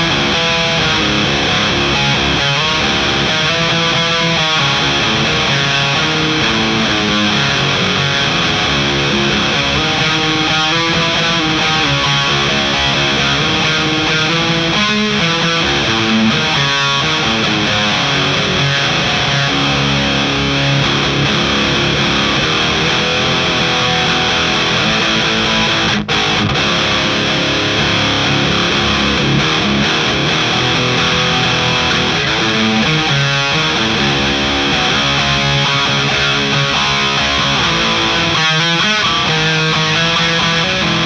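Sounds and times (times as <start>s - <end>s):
heavily distorted electric guitar: 0.0s - 41.0s.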